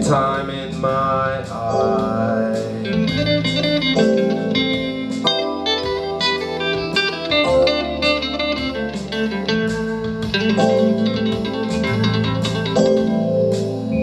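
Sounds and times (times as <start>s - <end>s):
bass line: 0.0s - 14.0s
electric guitar playing: 0.0s - 14.0s.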